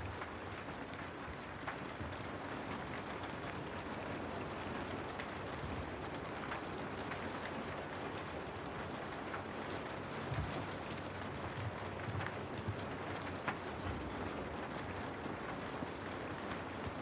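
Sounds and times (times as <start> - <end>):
rain on a window: 0.0 - 17.0.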